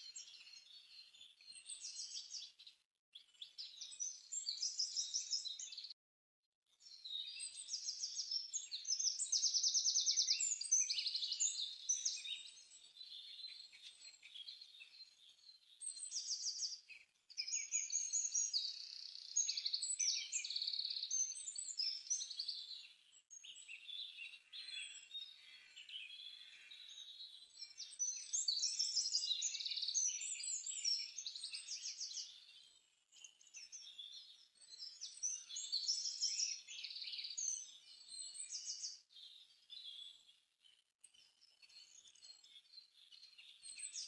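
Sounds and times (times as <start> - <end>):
songbirds chirping and singing: 0.0 - 6.0, 6.8 - 44.0.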